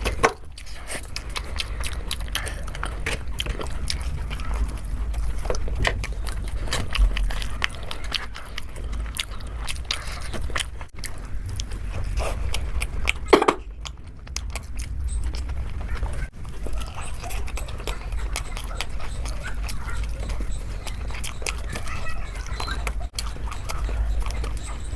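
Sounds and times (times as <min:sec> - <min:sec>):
person chewing and biting food: 0:00.0 - 0:24.9.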